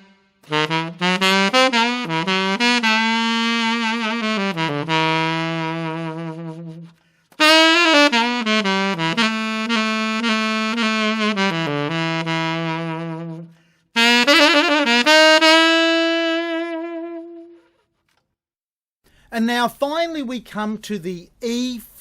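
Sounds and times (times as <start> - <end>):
tenor saxophone melody: 0.0 - 17.9.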